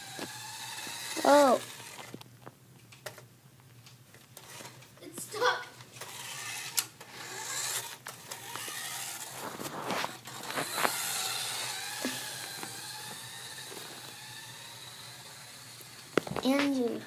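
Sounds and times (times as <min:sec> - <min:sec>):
toy car electric motor whirring: 0:00.0 - 0:02.2, 0:04.4 - 0:04.8, 0:06.0 - 0:17.0.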